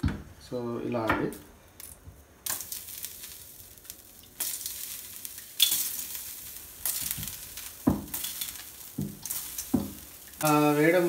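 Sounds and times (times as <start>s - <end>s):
water sizzling on a hot pan: 1.2s - 11.0s.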